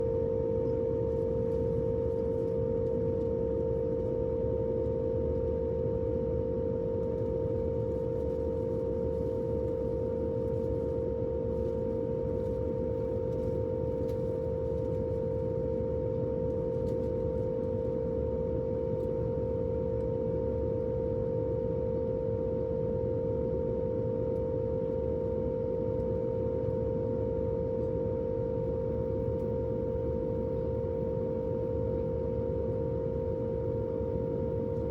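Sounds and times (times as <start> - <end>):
steady humming tone: 0.0 - 5.6, 6.3 - 23.2, 23.8 - 34.9.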